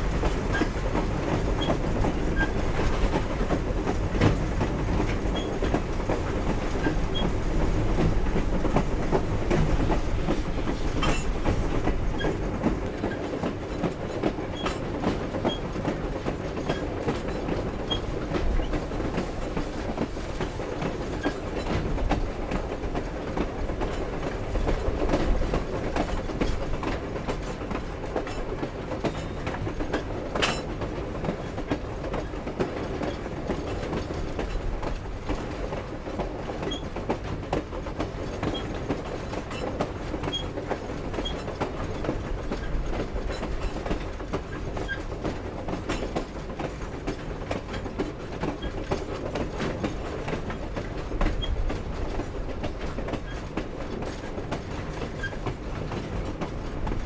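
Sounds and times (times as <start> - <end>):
train wheels on rails: 0.0 - 57.0
clicks and clanks from cars: 0.2 - 57.0.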